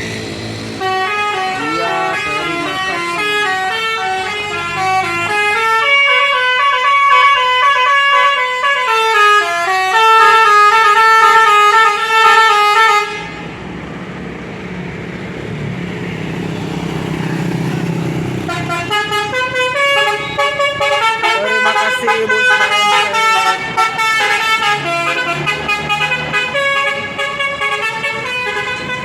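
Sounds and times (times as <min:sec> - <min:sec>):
bus engine running: 0:00.0 - 0:07.1, 0:08.7 - 0:29.0
musical bus horn melody: 0:00.7 - 0:13.6, 0:18.4 - 0:29.0.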